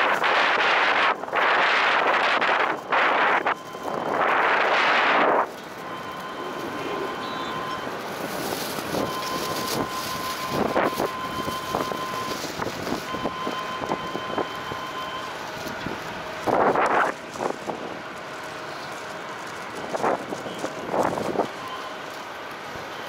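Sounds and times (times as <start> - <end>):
wind buffeting microphone: 0.0 - 18.2, 19.5 - 21.6
distant jet aircraft hiss: 0.0 - 23.0.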